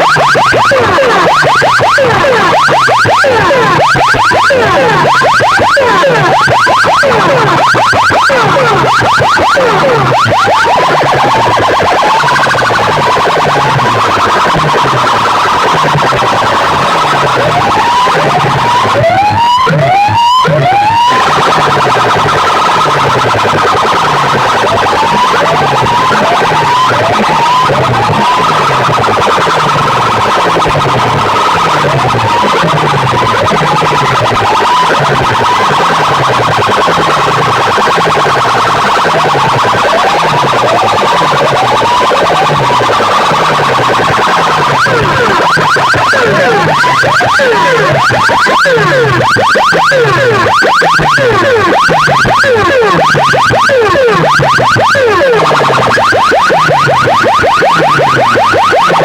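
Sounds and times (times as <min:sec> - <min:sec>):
siren-like rising whoops: 0:00.0 - 0:59.0.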